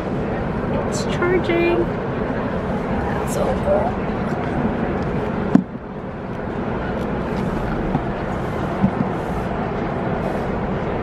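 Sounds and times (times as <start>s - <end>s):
crowded hall din: 0.0s - 11.0s.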